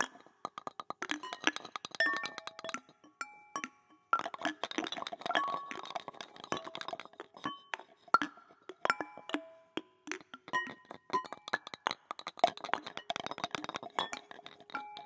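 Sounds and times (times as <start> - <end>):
found objects tapped and struck: 0.0 - 15.0.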